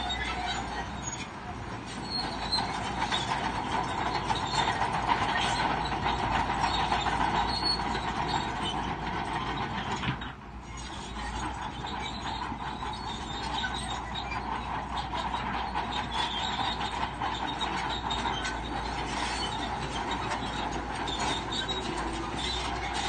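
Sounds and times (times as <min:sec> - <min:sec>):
crawler tracks clanking and squealing: 0:00.0 - 0:23.0
diesel engine under load: 0:00.0 - 0:23.0.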